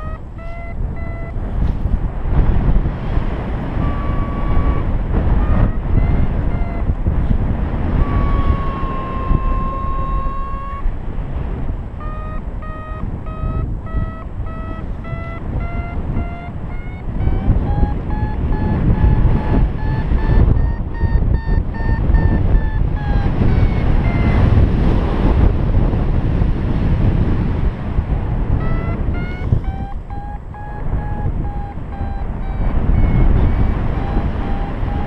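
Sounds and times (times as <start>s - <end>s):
variometer beeping: 0.0s - 2.0s, 2.6s - 25.6s, 27.4s - 35.0s
wind rushing on microphone: 0.0s - 35.0s.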